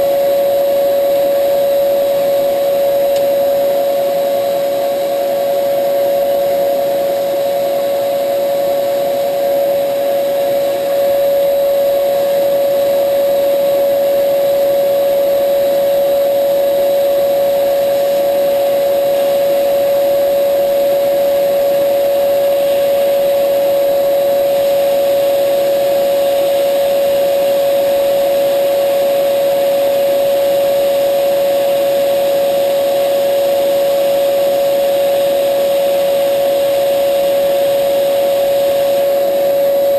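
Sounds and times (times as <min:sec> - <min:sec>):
shop vacuum whine: 0:00.0 - 0:39.9.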